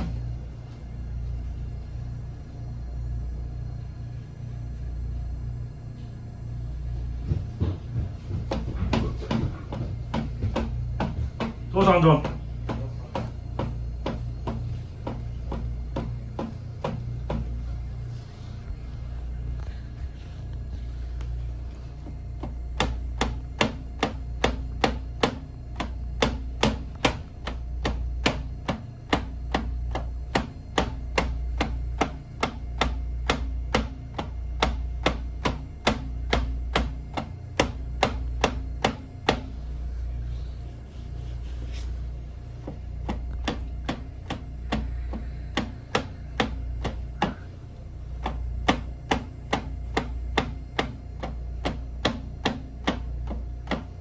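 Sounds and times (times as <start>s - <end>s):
low hum: 0.0s - 50.5s.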